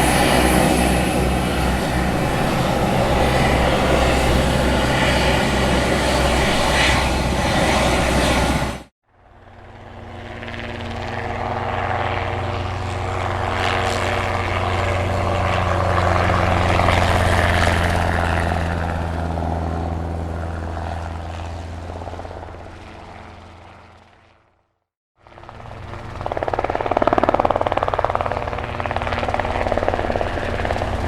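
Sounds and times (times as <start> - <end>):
helicopter flying past: 0.0 - 31.0.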